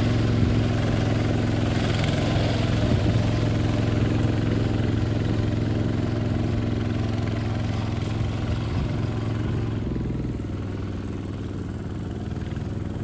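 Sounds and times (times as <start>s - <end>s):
bulldozer engine running: 0.0s - 13.0s.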